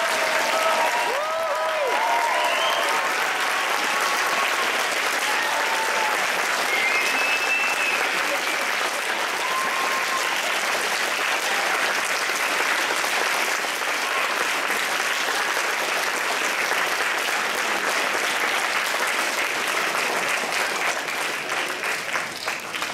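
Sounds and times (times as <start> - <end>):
audience applauding: 0.0 - 22.9.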